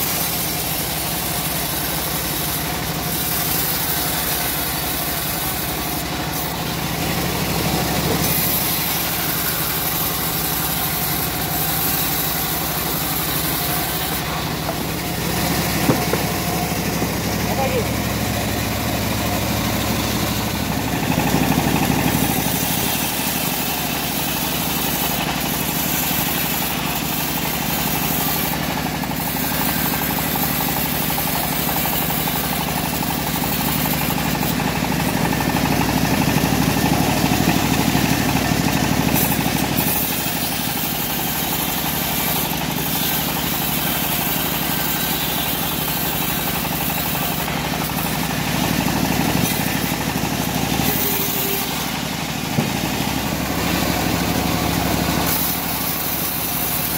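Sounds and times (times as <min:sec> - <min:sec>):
bandsaw sawing through log: 0:00.0 - 0:56.9.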